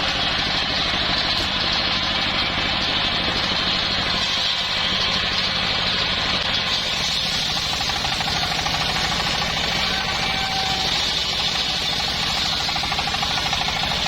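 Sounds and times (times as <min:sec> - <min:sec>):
sawmill engine running: 0:00.0 - 0:14.0.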